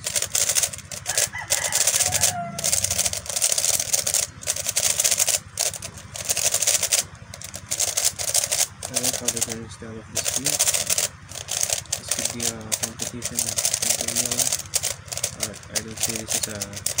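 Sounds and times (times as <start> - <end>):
puzzle cube clicking and rattling: 0.0 - 17.0.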